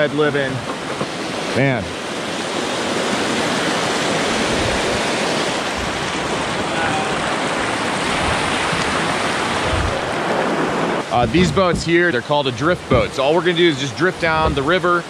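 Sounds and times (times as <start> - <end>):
river water rushing over stones: 0.0 - 15.0.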